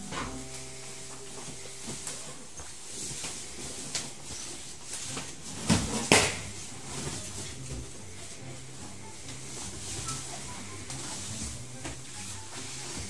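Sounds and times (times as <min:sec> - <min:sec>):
play tent handling noises: 0:00.0 - 0:13.0.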